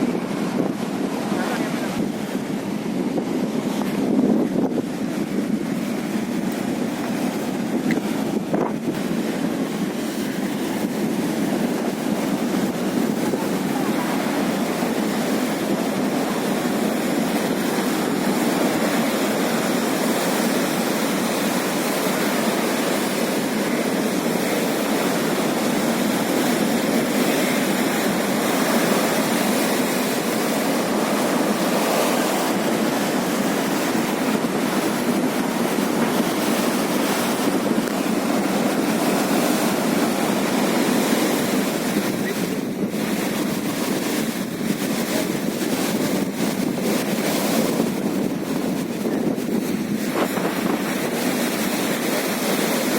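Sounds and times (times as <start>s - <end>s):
sea waves washing on shore: 0.0s - 52.9s
wind: 0.0s - 52.9s.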